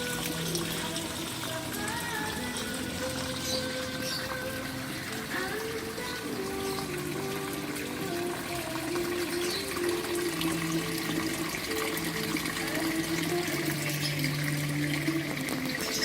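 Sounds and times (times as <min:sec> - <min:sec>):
instrumental background music: 0:00.0 - 0:16.0
running water splashing: 0:00.0 - 0:16.0.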